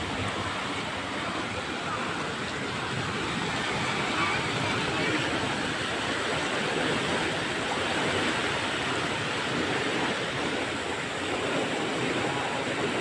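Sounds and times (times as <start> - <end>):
turbulent water rushing: 0.0 - 13.0.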